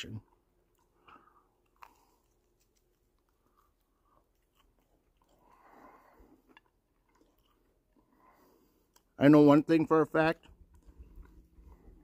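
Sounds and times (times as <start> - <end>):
faint chewing clicks: 0.2 - 9.2, 10.4 - 12.0.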